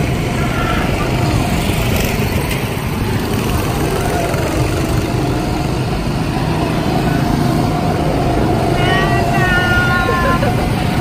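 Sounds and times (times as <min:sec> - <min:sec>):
go-kart engines driving past: 0:00.0 - 0:11.0.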